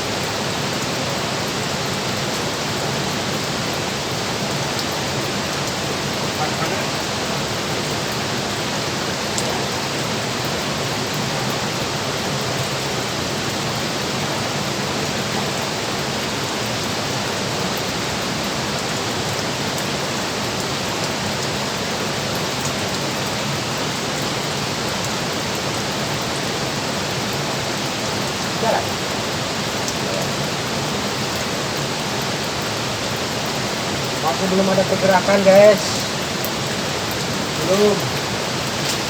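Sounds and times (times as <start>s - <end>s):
water rushing through dam: 0.0s - 39.0s.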